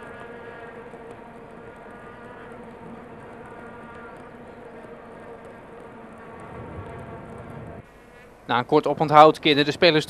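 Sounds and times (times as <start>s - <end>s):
vuvuzelas buzzing drone: 0.0s - 10.0s.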